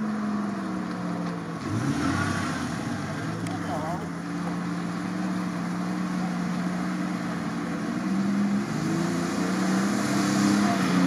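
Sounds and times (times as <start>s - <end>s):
car engine pulling at low speed: 0.0s - 11.0s
water splashing around wheels: 0.0s - 11.0s.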